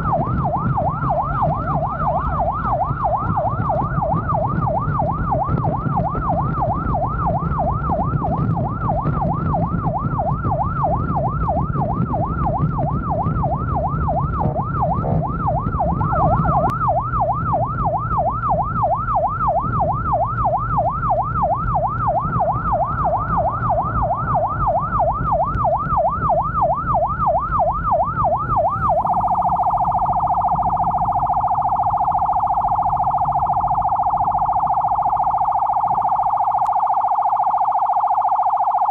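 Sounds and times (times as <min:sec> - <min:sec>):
electronic siren yelping: 0:00.0 - 0:38.9
engine and road rumble: 0:00.0 - 0:38.9.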